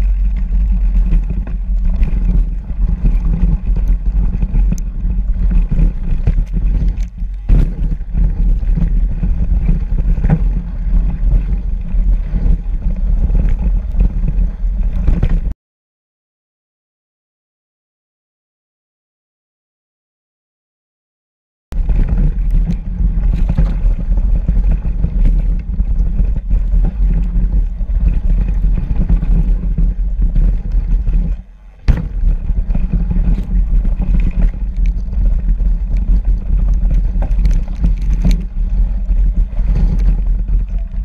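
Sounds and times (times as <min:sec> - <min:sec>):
bike clicks and rattles: 0:00.0 - 0:15.5, 0:21.8 - 0:41.0
wind buffeting and tyre noise: 0:00.0 - 0:15.6, 0:21.7 - 0:41.0.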